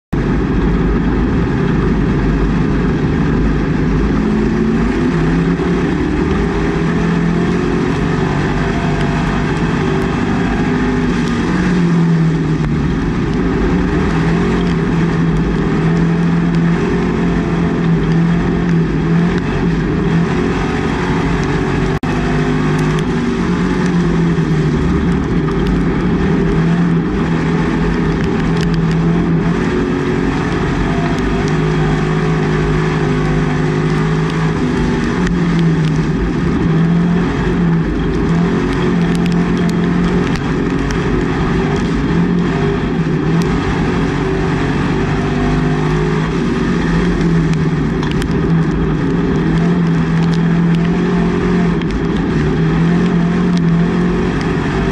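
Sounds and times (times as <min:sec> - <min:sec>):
race car engine running: 0:00.0 - 0:54.9.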